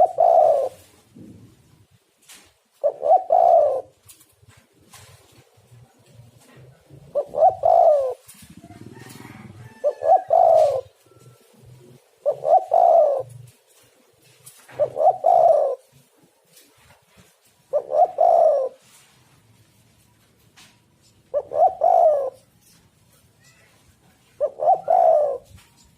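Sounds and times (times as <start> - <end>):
dove cooing: 0.0 - 1.6, 2.8 - 4.2, 4.8 - 19.2, 21.0 - 25.9.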